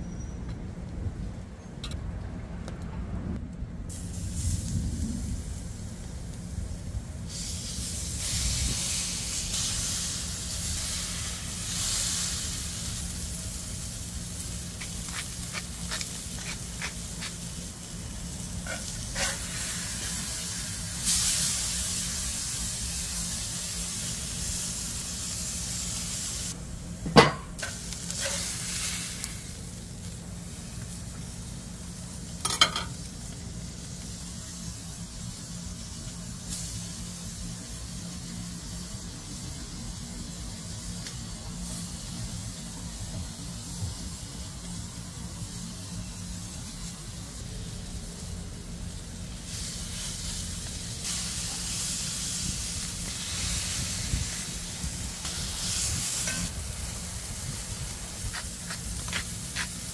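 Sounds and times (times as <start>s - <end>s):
meat sizzling in a pan: 7.2s - 26.6s, 27.3s - 59.9s.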